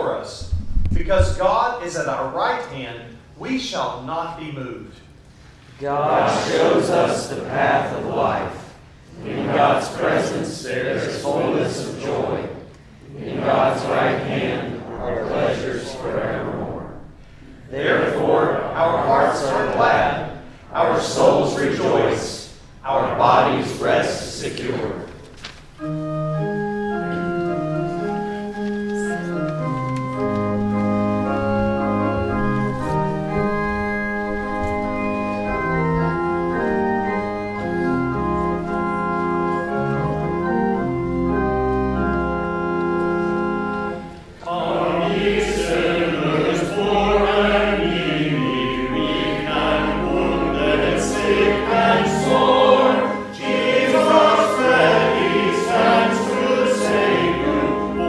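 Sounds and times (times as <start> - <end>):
congregation singing a hymn: 5.8 - 58.0
church organ chords: 6.0 - 58.0.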